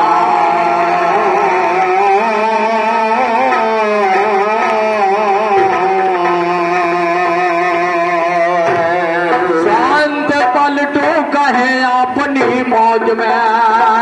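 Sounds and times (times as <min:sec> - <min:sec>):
ornamented devotional melody: 0:00.0 - 0:14.0.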